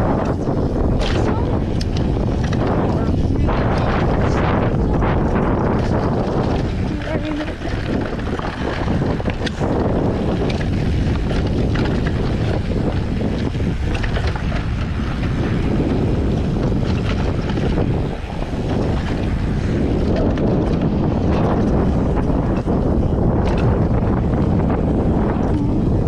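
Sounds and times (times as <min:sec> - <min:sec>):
wind buffeting microphone: 0:00.0 - 0:26.0
bike clicks and knocks: 0:00.1 - 0:04.4, 0:05.0 - 0:25.7.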